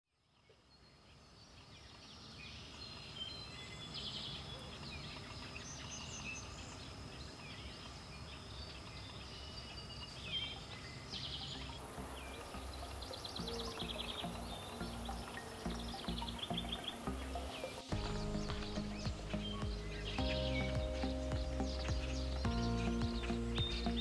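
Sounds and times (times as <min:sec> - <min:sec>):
songbirds singing and calling: 0:00.2 - 0:24.0
fast trilled birdsong: 0:01.2 - 0:24.0.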